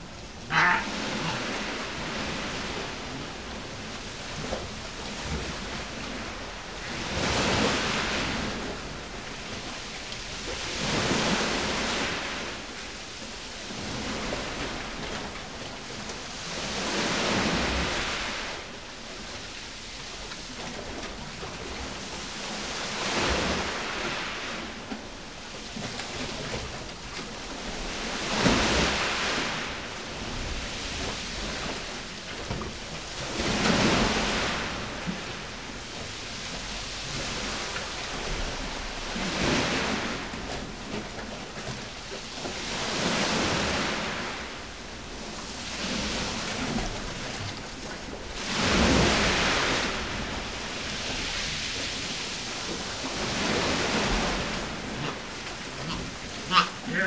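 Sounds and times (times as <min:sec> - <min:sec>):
sea waves washing into a cave: 0:00.0 - 0:57.0.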